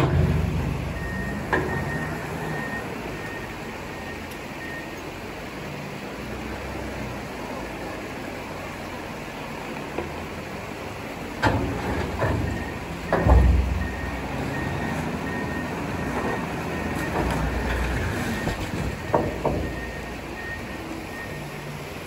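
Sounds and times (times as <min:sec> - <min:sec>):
wheel loader diesel engine: 0:00.0 - 0:22.0.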